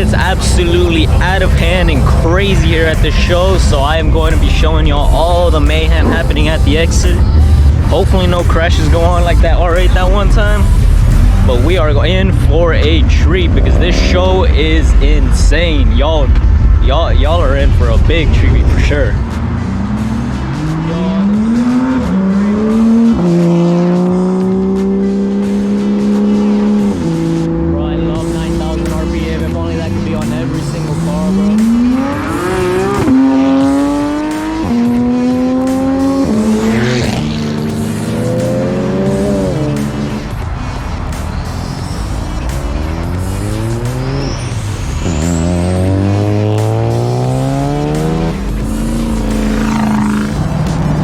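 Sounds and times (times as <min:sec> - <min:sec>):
car accelerating hard: 0:00.0 - 0:51.0.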